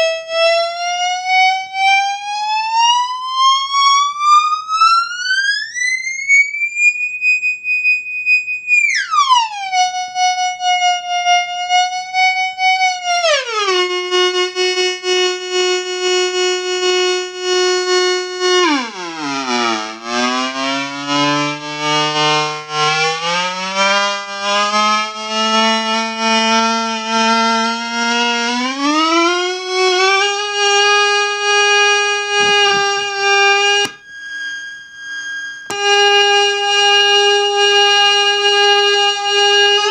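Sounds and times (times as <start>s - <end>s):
siren-like electronic tone: 0.0s - 39.9s.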